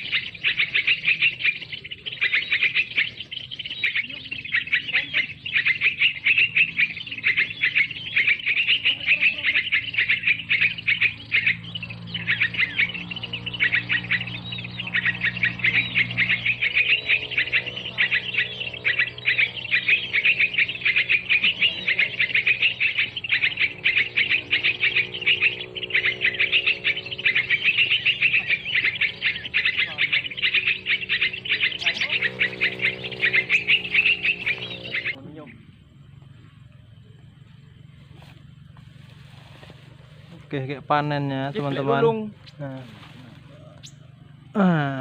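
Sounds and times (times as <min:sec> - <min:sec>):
faint low hum: 0:00.0 - 0:40.9
birds chirping and twittering: 0:00.0 - 0:45.0.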